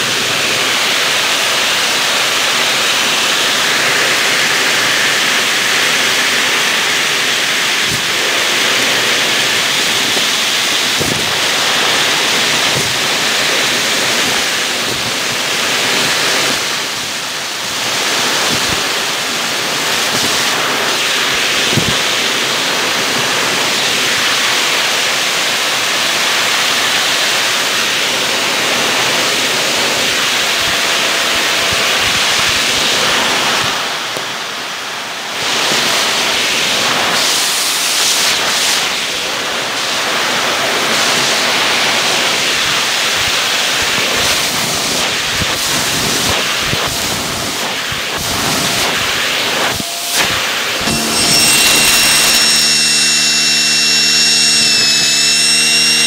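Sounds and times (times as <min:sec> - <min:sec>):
vacuum cleaner air rush: 0:00.0 - 0:24.9, 0:35.4 - 0:56.0.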